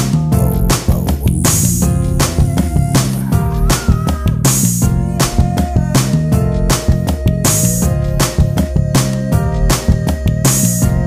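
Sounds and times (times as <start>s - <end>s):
drums bass and guitar music: 0.0s - 11.0s.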